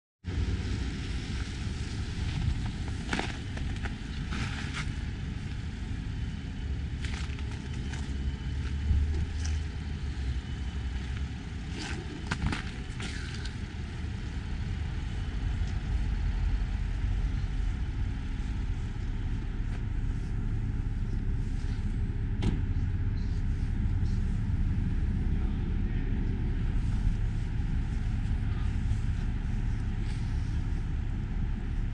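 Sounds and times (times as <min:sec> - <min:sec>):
steady low rumble: 0:00.2 - 0:31.9.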